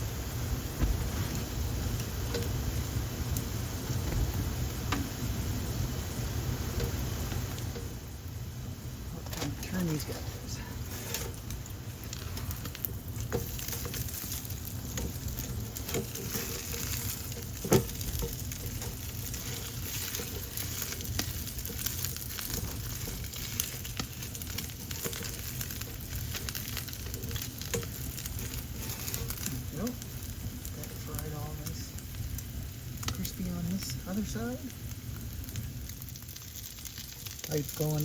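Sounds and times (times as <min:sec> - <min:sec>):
patties sizzling in a pan: 0:00.0 - 0:38.0.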